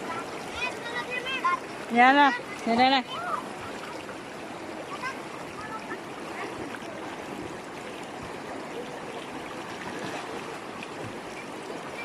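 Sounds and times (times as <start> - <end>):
river water over rocks: 0.0 - 12.0.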